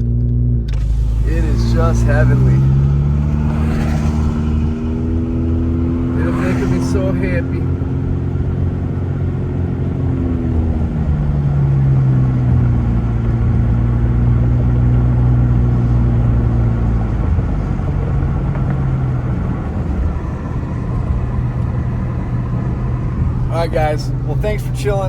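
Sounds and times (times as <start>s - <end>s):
car engine hum while driving: 0.0s - 25.0s.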